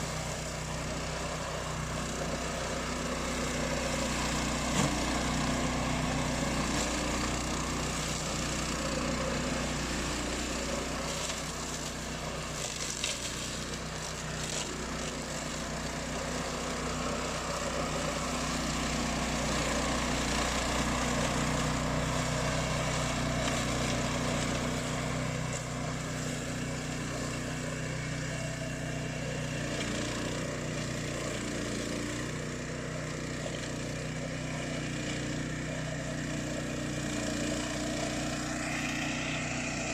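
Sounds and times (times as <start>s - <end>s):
mower engine droning: 0.0s - 39.9s.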